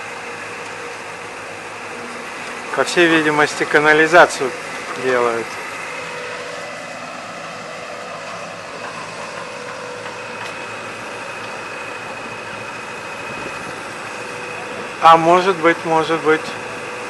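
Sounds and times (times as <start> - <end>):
motor humming: 0.0 - 17.0
thin high motor whine: 0.0 - 17.0.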